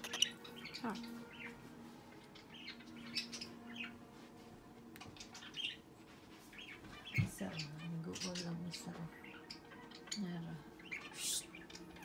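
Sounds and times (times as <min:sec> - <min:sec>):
pet birds chirping: 0:00.0 - 0:04.1, 0:04.8 - 0:12.0.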